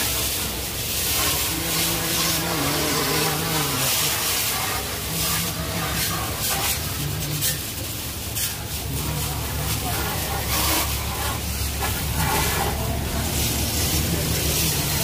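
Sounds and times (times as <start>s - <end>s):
pressure washer spraying water: 0.0s - 15.0s.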